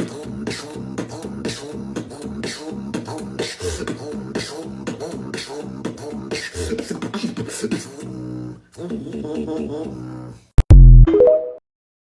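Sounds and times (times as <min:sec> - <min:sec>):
person beatboxing: 0:00.0 - 0:10.4.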